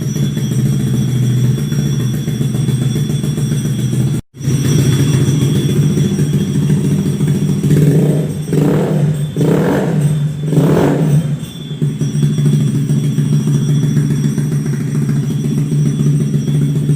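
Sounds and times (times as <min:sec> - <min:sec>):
motorcycle engine idling: 0:00.0 - 0:16.9
motorcycle throttle blips: 0:00.0 - 0:16.9.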